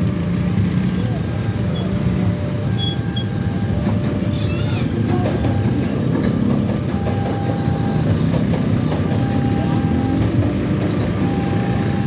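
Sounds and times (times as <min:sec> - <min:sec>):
electric train wheels rumbling on rails: 0:00.0 - 0:12.0
motorcycle engines idling: 0:00.0 - 0:12.0.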